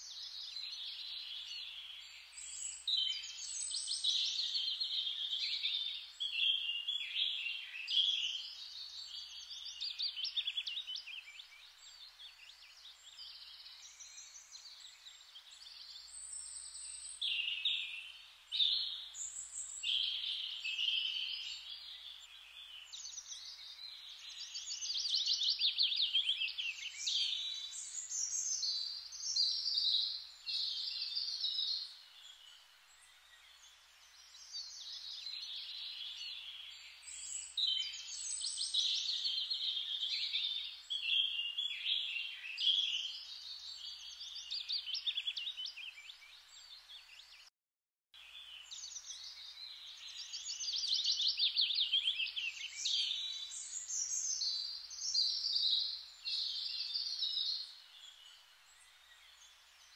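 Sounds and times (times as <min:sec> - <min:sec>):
songbirds chirping and trilling: 0:00.0 - 0:47.5, 0:48.2 - 0:59.9.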